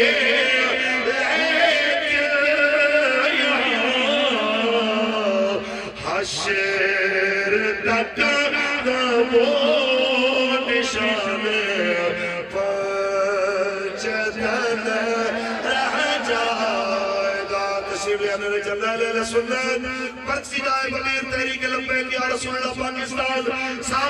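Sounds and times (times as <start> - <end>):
man chanting into a microphone: 0.0 - 24.0.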